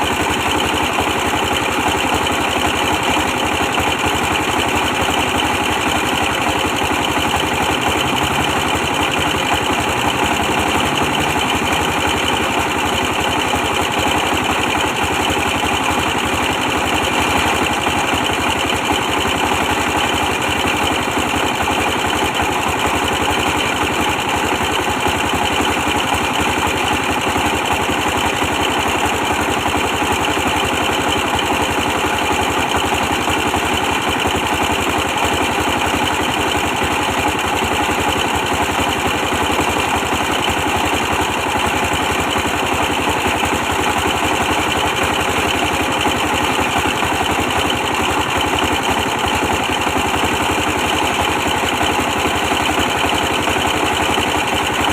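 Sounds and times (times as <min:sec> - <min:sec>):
stationary diesel engine running: 0:00.0 - 0:54.9.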